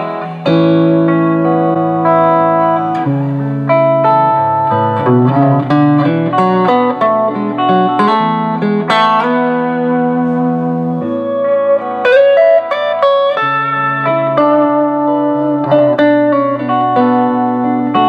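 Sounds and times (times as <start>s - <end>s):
electric guitar playing: 0.0s - 18.0s.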